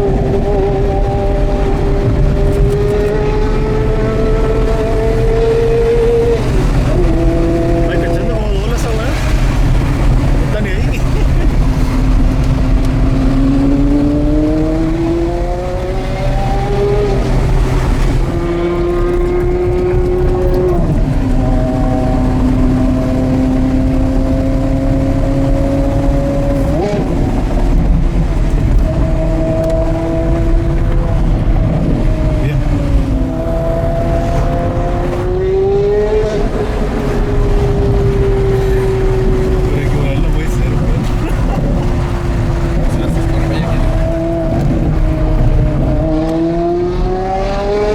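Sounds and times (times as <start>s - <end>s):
sports car engine revving: 0.0s - 47.9s.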